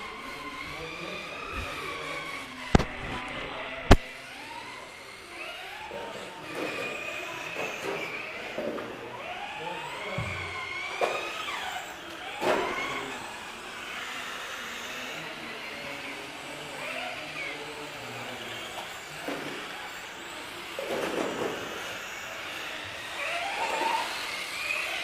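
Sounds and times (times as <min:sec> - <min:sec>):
rc car motor whining: 0:00.0 - 0:25.0.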